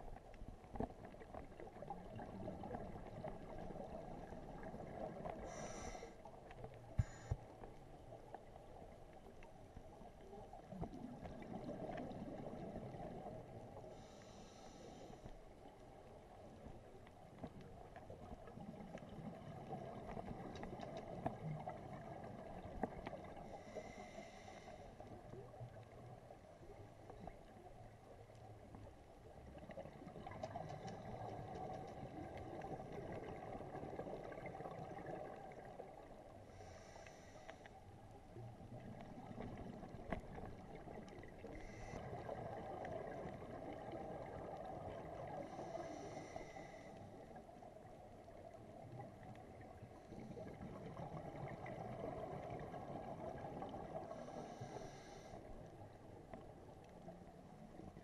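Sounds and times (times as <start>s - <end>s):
underwater bubbles gurgling: 0.0s - 58.0s.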